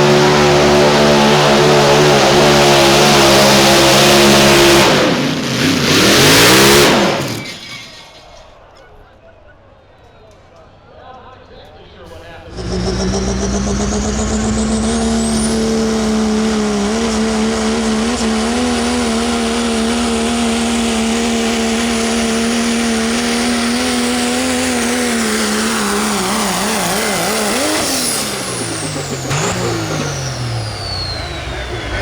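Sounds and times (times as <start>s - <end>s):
engine running at high revs: 0.0s - 7.6s, 12.4s - 32.0s
engine winding down whine: 0.0s - 7.9s, 12.2s - 32.0s.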